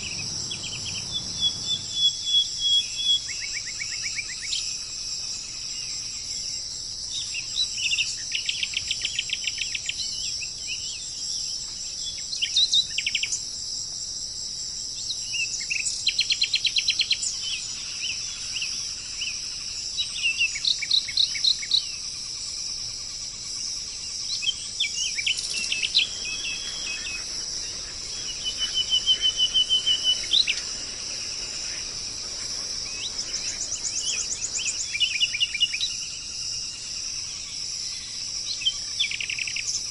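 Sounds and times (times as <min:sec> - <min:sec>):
songbirds singing trills: 0:00.0 - 0:13.6, 0:14.9 - 0:39.9
high-pitched hiss: 0:00.0 - 0:39.9.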